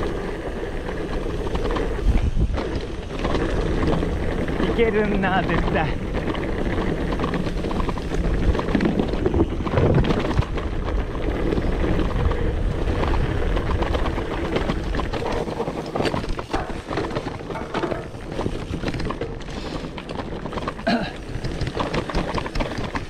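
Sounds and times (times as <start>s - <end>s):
wind rushing over microphone: 0.0s - 20.6s
bike rattling over rough ground: 0.0s - 23.0s.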